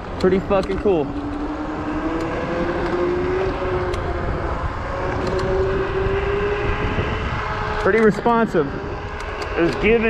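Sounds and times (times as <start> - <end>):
wind rumble on microphone: 0.0 - 10.0
electric scooter motor whining: 0.1 - 10.0.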